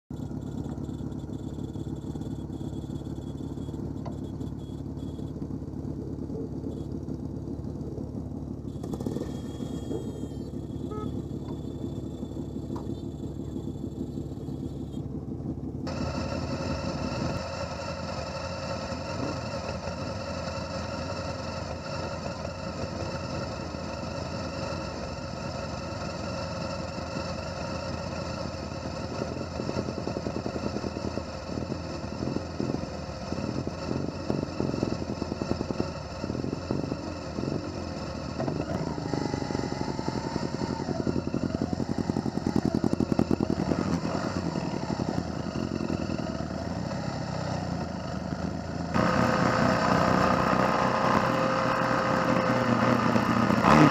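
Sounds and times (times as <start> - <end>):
fuller engine sound: 0.0 - 53.9
motorcycles running: 0.1 - 53.9.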